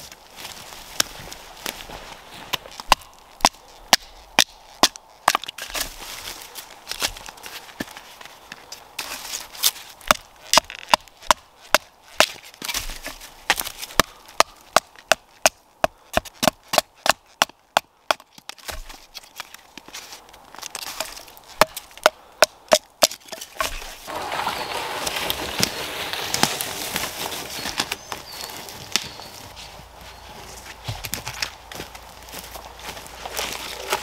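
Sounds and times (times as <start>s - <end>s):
trunk dragged through dry twigs: 0.0s - 14.0s, 18.5s - 22.0s, 23.0s - 34.0s.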